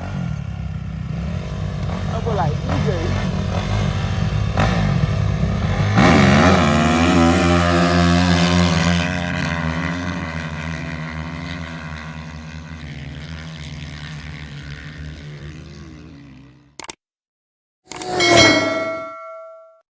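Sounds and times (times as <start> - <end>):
dirt bike engine revving: 0.0 - 16.7.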